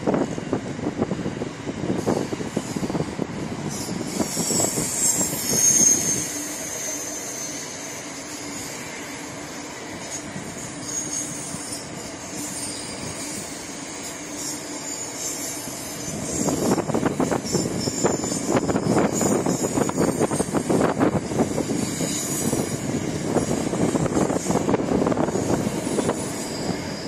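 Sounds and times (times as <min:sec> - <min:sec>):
train wagons rolling on rails: 0:00.0 - 0:27.0
high-pitched wheel squeals: 0:02.0 - 0:27.0.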